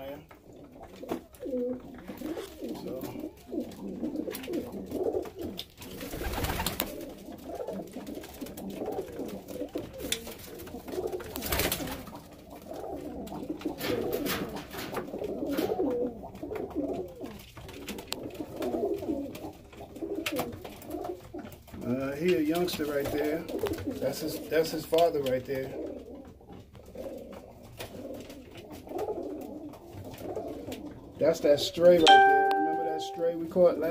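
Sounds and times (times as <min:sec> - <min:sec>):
pigeons cooing: 0:00.0 - 0:32.4.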